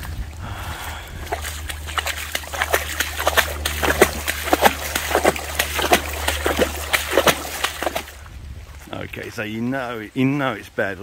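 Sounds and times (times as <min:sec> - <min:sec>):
footsteps splashing through water: 0:00.0 - 0:09.3
rain falling on water: 0:00.7 - 0:11.0.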